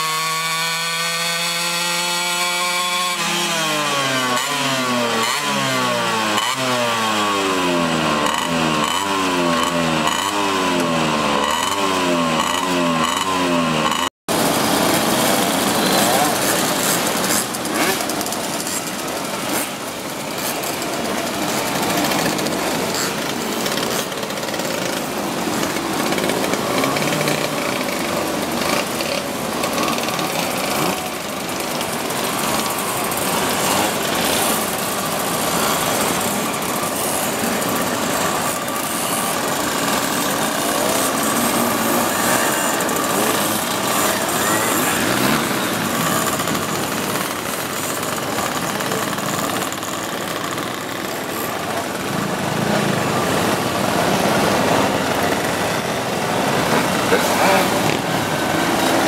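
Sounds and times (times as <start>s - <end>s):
moped engines buzzing: 0.0s - 59.0s.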